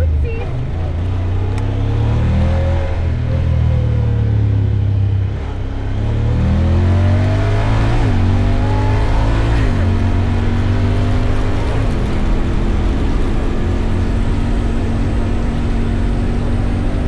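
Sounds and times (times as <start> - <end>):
off-road buggy engine accelerating: 0.0 - 17.0.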